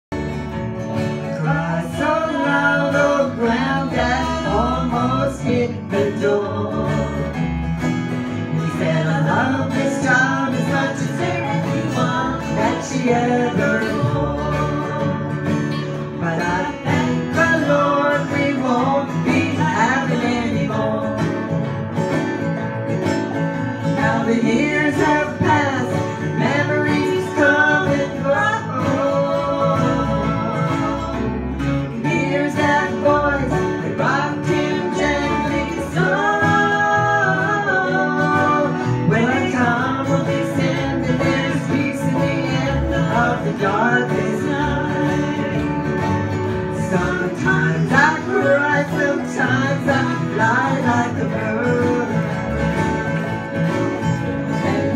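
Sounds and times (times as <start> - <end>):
acoustic guitars strumming: 0.0 - 54.9
banjo: 0.0 - 54.9.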